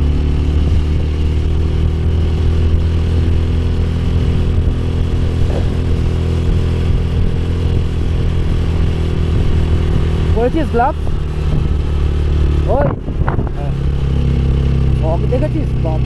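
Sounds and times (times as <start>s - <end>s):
motorcycle engine humming: 0.0s - 16.0s.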